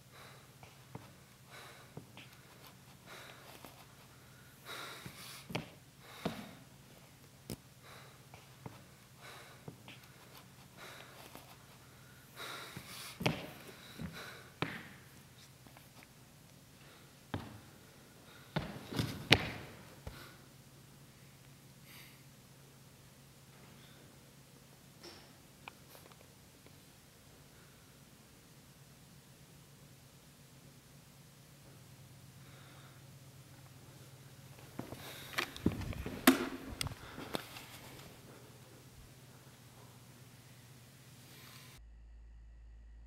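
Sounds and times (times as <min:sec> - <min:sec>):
faint low hum: 0:00.0 - 0:43.0.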